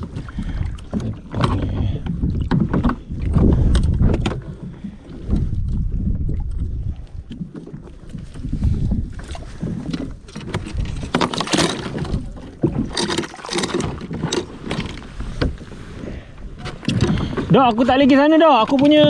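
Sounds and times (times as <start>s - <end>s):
water splashing around kayak: 0.0s - 19.0s
wind on microphone: 0.0s - 19.0s.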